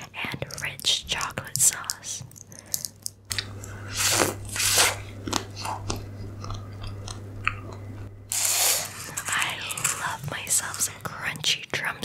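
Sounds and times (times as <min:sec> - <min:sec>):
chewing with small crunches: 0:00.0 - 0:11.1.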